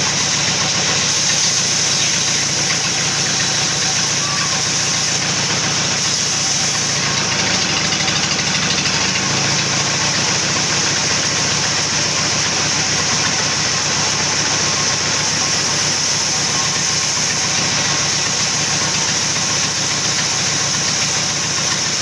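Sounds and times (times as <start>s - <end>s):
sawmill machinery drone: 0.0s - 22.0s.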